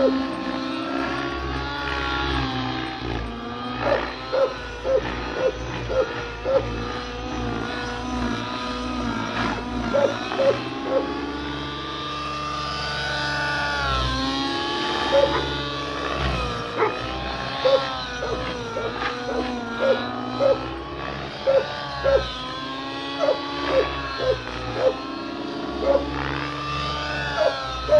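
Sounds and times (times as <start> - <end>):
model helicopter engine whine: 0.0 - 27.9.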